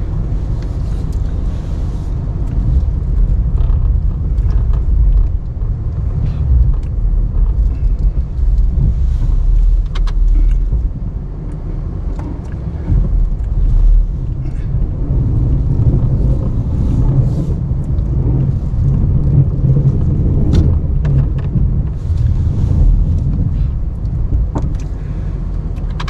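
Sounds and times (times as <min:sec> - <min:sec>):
pickup truck engine rumbling: 0:00.0 - 0:26.0
plow blade pushing snow: 0:00.0 - 0:26.0.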